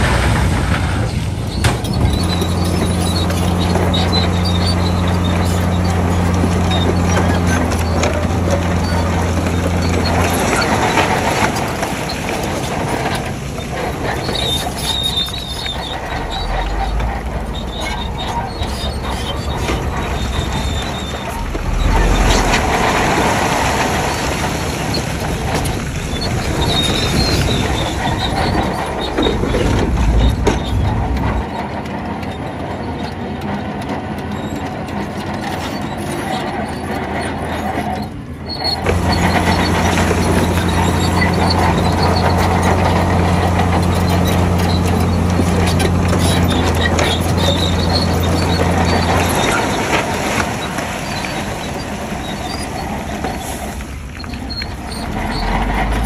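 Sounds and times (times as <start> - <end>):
low engine drone: 0.0 - 32.0, 38.8 - 56.0
heavy diesel engine: 0.0 - 56.0.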